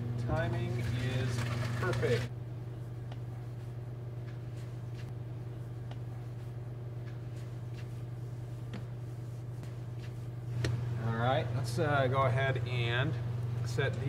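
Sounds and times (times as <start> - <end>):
microwave humming: 0.0 - 14.0.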